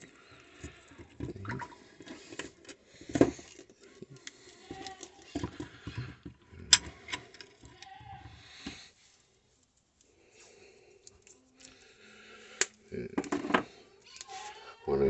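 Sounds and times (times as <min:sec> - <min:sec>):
small parts clicking and knocking: 0:00.0 - 0:08.8, 0:10.9 - 0:14.5.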